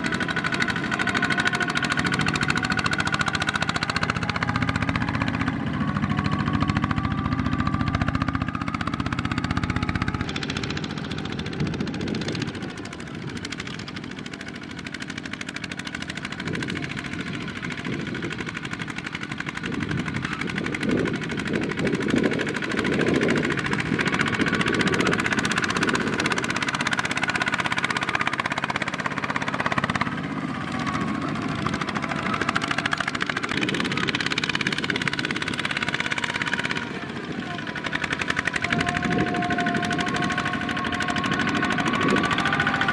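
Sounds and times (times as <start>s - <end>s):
tractor diesel engine chugging: 0.0s - 42.9s.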